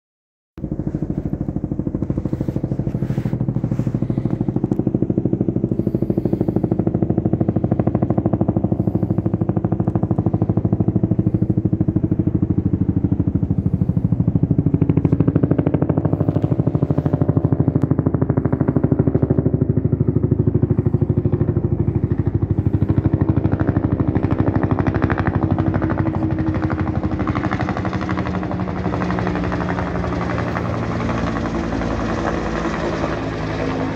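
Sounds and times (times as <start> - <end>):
helicopter rotor beating: 0.6 - 33.9
low engine drone: 0.6 - 33.9.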